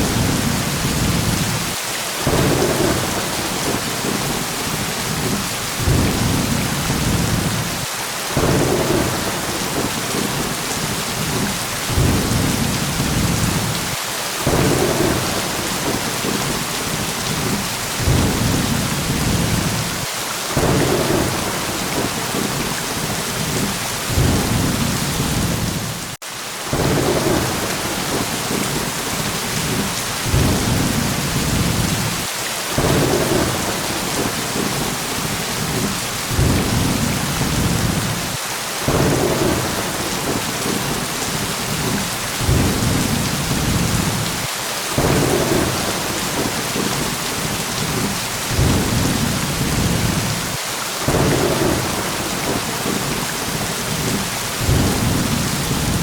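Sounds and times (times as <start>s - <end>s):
low rolls of thunder: 0.0s - 7.8s, 8.4s - 19.9s, 20.6s - 26.1s, 26.7s - 32.2s, 32.8s - 38.3s, 38.9s - 44.4s, 45.0s - 50.4s, 51.1s - 56.0s
steady rain: 0.0s - 56.0s.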